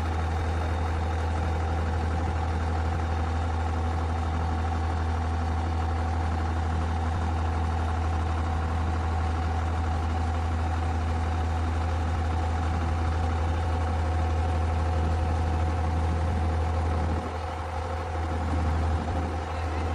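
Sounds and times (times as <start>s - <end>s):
diesel engine idling: 0.0s - 19.9s.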